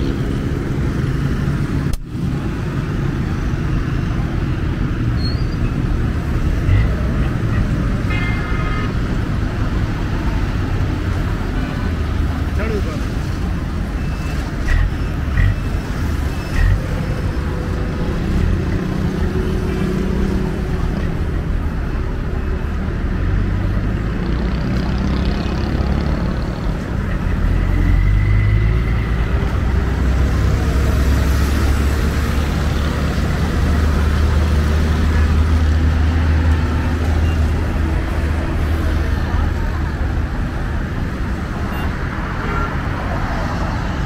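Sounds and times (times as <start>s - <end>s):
low traffic rumble: 0.0s - 44.0s
passing vehicle engines: 0.0s - 44.0s.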